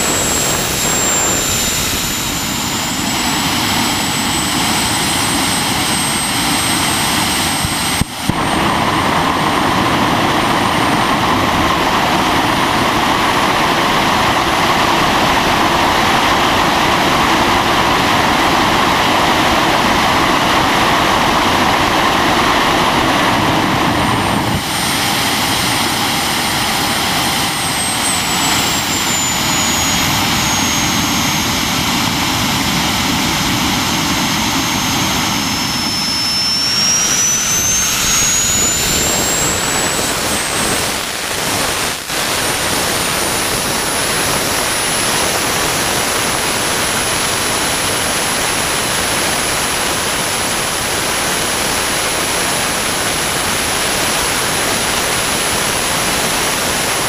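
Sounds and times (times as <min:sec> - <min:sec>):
high turbine whine: 0:00.0 - 0:57.0
jet engine rushing: 0:00.0 - 0:57.0.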